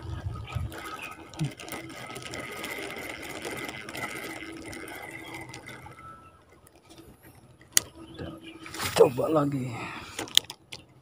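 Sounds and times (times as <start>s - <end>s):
fishing reel gears whirring: 0.0s - 11.0s.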